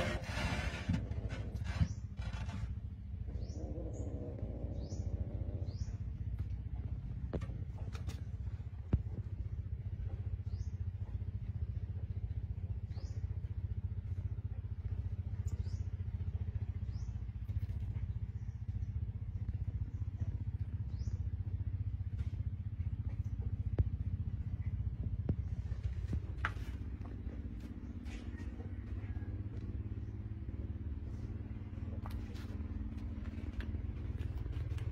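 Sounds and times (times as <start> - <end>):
low engine hum: 0.0 - 34.9.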